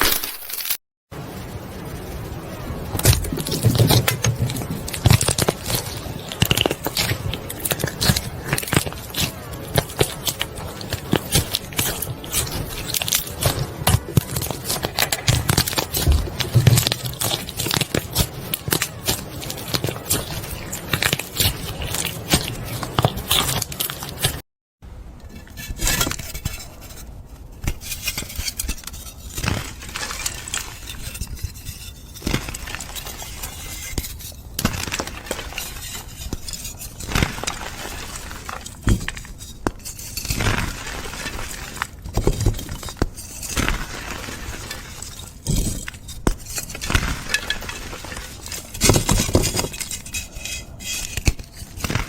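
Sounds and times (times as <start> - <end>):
scraping: 1.2 - 24.4, 25.1 - 52.0.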